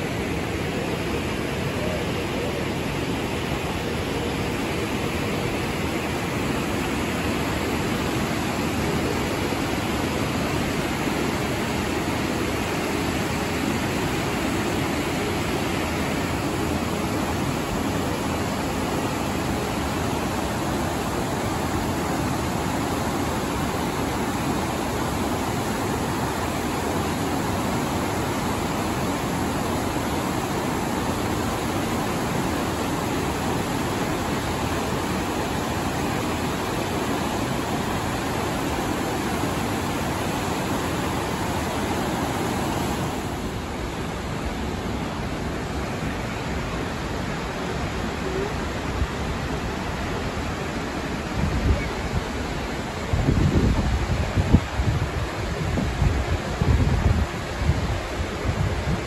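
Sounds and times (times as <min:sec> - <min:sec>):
white-water rapids rushing: 0:00.0 - 0:59.0.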